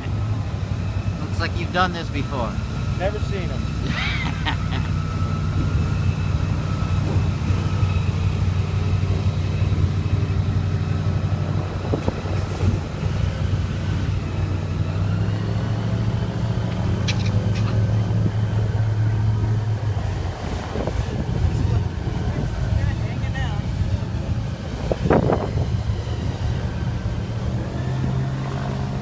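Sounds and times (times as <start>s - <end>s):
airboat engine droning: 0.0s - 29.0s.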